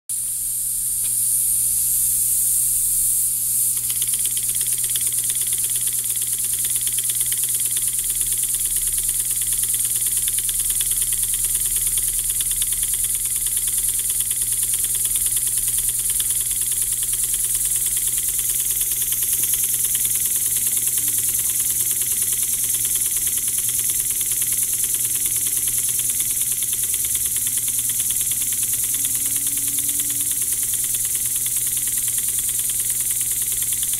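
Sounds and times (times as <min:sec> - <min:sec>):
model steam engine running: 0:01.6 - 0:33.9.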